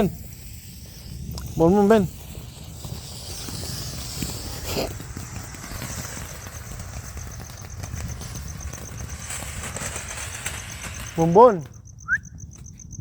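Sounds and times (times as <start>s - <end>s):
firework fountain hissing: 0.0s - 12.5s
insect chirping: 0.0s - 13.0s.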